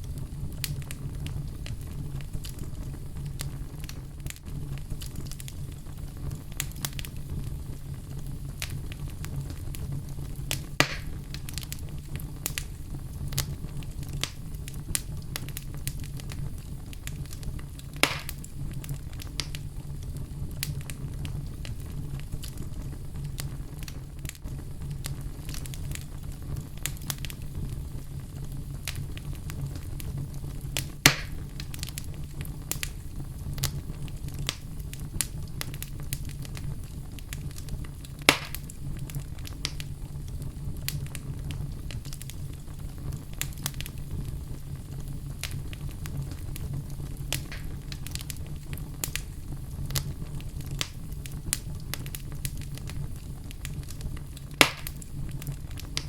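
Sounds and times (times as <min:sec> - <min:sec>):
loud fire snaps: 0:00.0 - 0:56.0
low rumble of flames: 0:00.0 - 0:56.0
wood fire crackling: 0:00.0 - 0:56.0.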